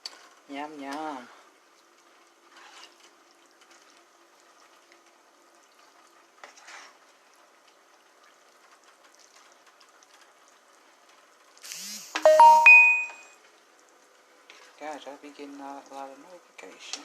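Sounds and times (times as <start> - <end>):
food simmering in a pot: 0.0 - 11.8, 13.4 - 17.0.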